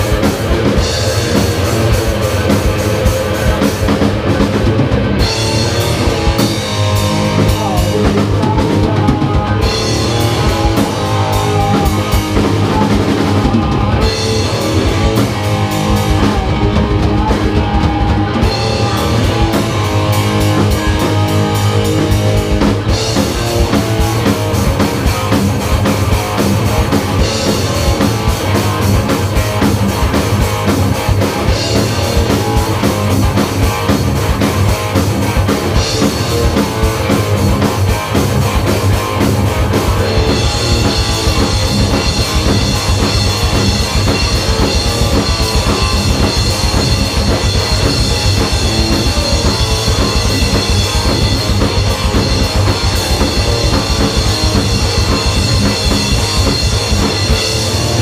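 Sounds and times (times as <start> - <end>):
live metal band playing: 0.0 - 58.0.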